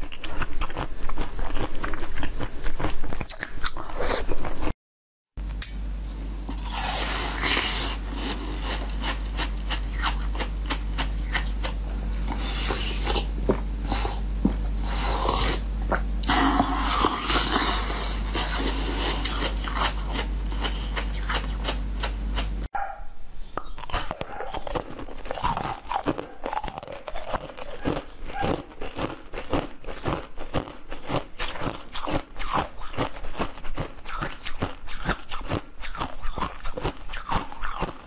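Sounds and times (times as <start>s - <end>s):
steady low hum: 5.4s - 38.0s.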